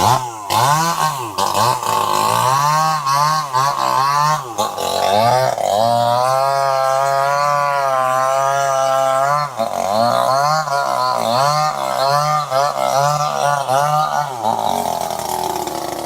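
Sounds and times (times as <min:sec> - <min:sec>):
chainsaw engine at high revs: 0:00.0 - 0:16.0.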